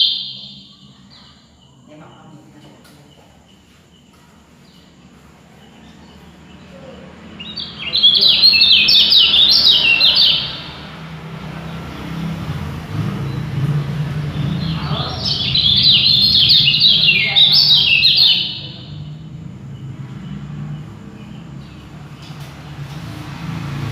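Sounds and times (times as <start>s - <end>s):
songbird chirping: 0.0s - 23.9s.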